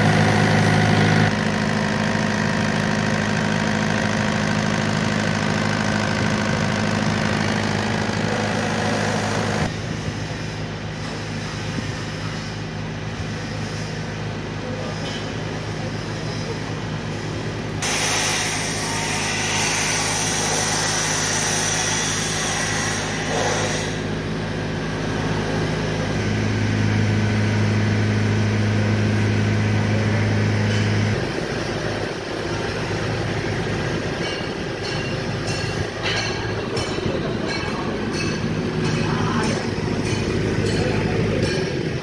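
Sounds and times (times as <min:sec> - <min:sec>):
diesel generator humming: 0:00.0 - 0:42.0.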